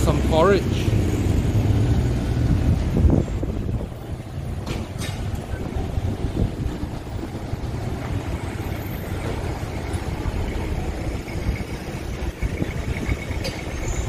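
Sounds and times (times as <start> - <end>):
street traffic rumble: 0.0 - 14.0
vehicle engines idling: 0.0 - 14.0.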